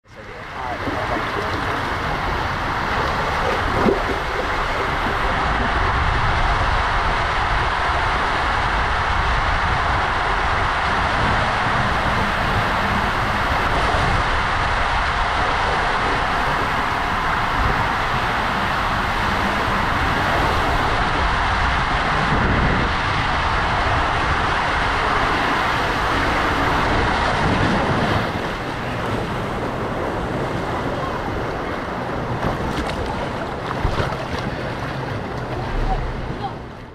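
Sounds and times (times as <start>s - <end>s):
water rushing through slide tube: 0.1s - 36.9s.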